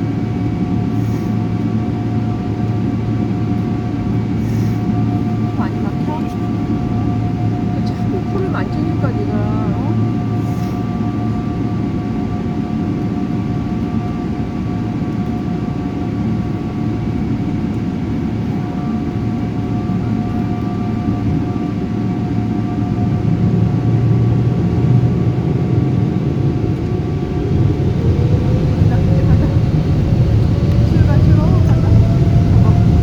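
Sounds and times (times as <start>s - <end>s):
jet engine cabin rush: 0.1s - 14.2s, 14.9s - 33.0s.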